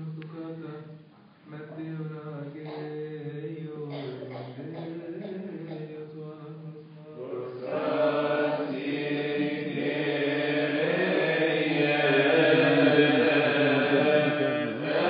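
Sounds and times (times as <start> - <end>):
male voices chanting a hymn: 1.5 - 15.0.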